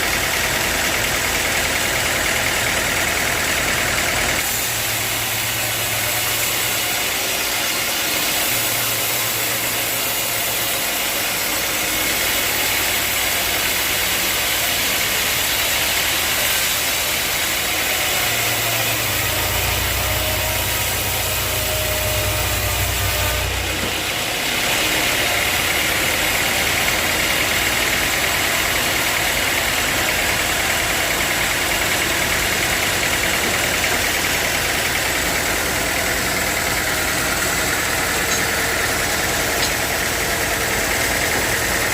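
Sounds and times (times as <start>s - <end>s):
sawmill machinery hum: 0.0s - 41.9s.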